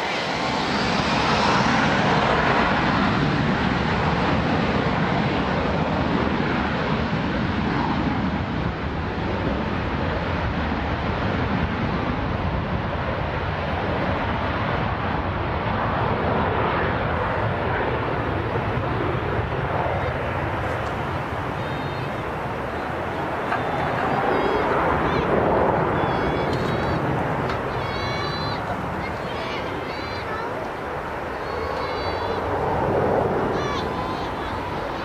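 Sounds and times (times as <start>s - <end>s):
jet engine rushing: 0.0s - 35.0s.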